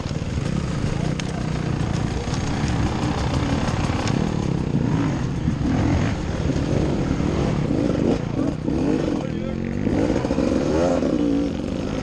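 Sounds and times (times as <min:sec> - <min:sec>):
dirt bike engine revving: 0:00.1 - 0:12.0.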